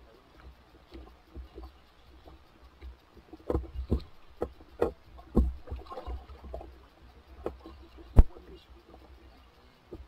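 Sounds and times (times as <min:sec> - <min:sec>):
water slapping boat hull: 0:00.0 - 0:10.0.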